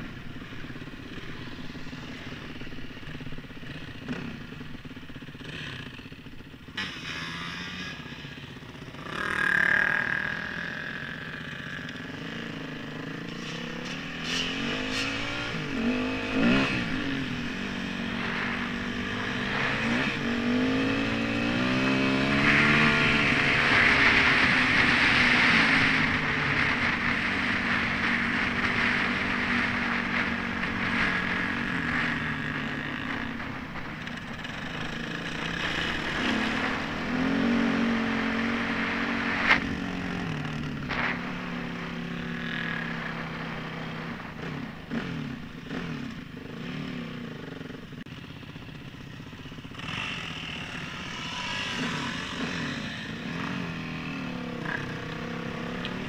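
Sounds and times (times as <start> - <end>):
dirt bike engine revving: 1.1 - 47.9, 49.3 - 56.0.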